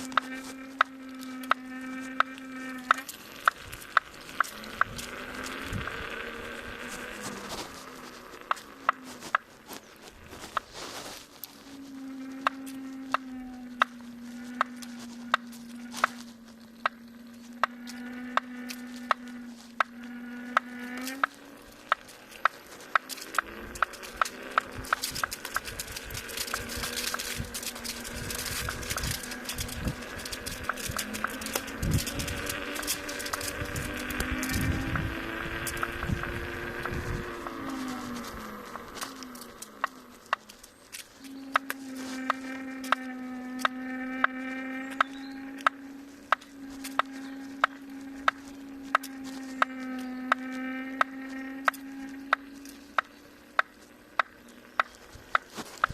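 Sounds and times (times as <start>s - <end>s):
electric motor humming: 0.0s - 55.9s.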